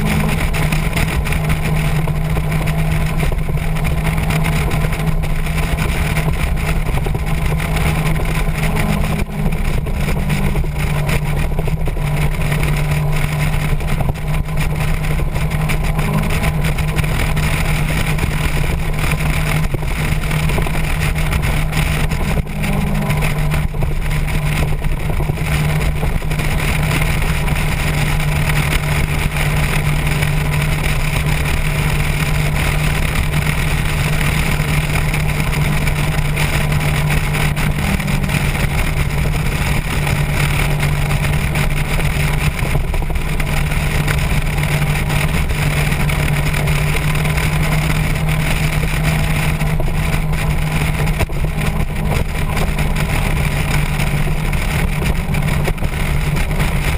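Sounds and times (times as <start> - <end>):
motorcycle engine cruising: 0.0 - 56.9
wind noise on microphone: 0.0 - 56.9.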